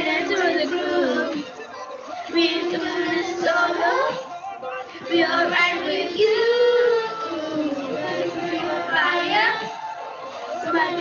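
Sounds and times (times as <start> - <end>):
children singing together: 0.0 - 1.5, 2.1 - 4.3, 5.0 - 11.0.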